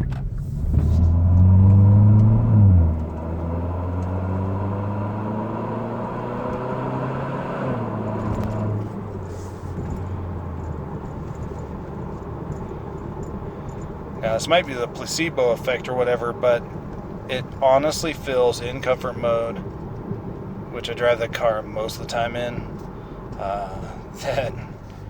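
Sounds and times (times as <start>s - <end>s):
car engine exhaust rumble: 0.0s - 25.0s.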